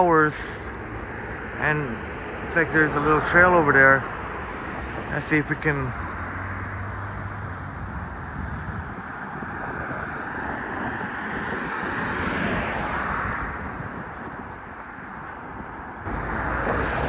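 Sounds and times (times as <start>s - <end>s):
passing vehicle road noise: 0.0s - 17.0s.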